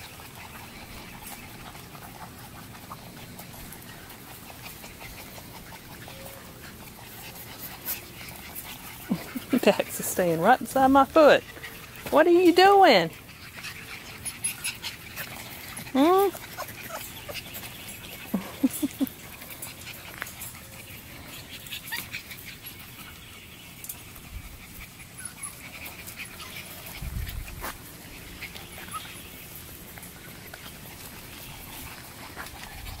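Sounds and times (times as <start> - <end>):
puppies whining: 0.0 - 33.0
puppies yipping: 0.0 - 33.0.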